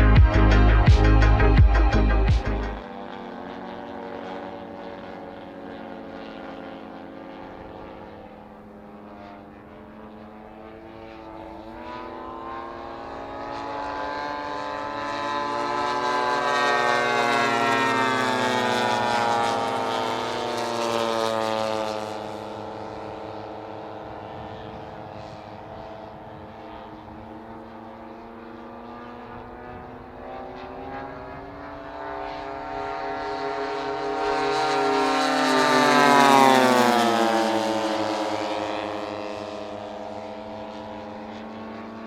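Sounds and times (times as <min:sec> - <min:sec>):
model plane engines droning: 0:00.0 - 0:42.0.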